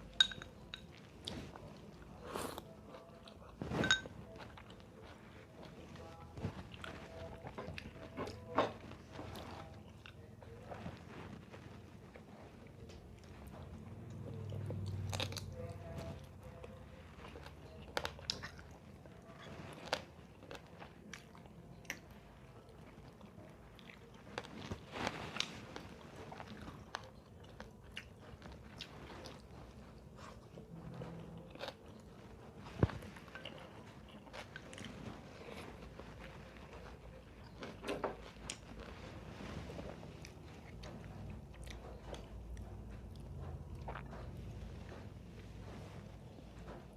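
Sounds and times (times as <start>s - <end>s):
chewing and crunching food: 0.0s - 46.9s.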